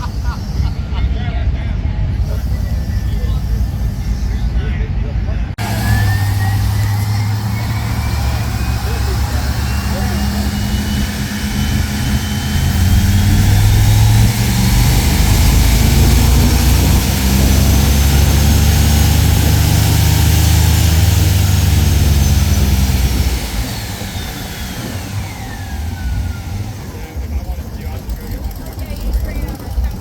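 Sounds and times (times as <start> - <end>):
engine running loud: 0.0 - 30.0
thin whine climbing in pitch: 2.3 - 29.6.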